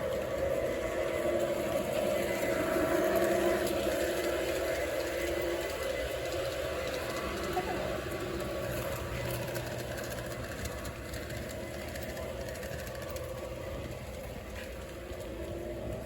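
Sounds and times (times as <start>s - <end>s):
model train motor hum: 0.0s - 16.0s
rapid light clicking of train: 0.0s - 16.0s.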